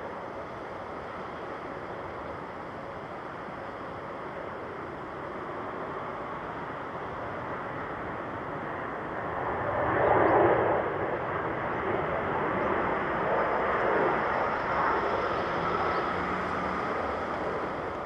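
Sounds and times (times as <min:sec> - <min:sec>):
faint high engine whine: 0:00.0 - 0:18.0
jet airliner roar: 0:00.0 - 0:18.0.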